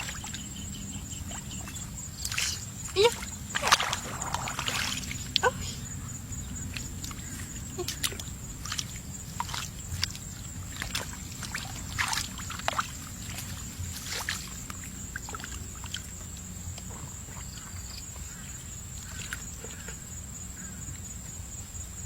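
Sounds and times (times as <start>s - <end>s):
water and mud splashing: 0.0s - 20.2s.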